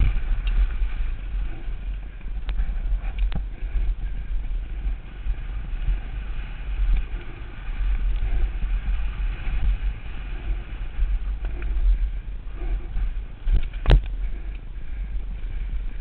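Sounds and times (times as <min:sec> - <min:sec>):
tyres hissing on dirt trail: 0:00.0 - 0:16.0
wind buffeting microphone: 0:00.0 - 0:16.0.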